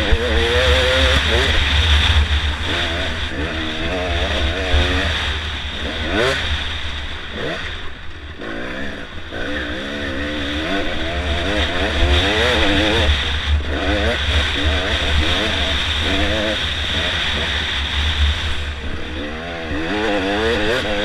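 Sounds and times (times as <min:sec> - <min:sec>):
constant low rumble: 0:00.0 - 0:21.0
dirt bike engine revving: 0:00.0 - 0:21.0.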